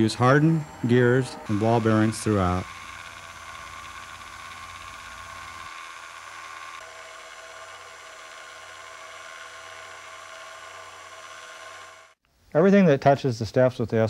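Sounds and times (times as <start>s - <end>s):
electric motor and gearbox whirring: 0.0s - 12.2s.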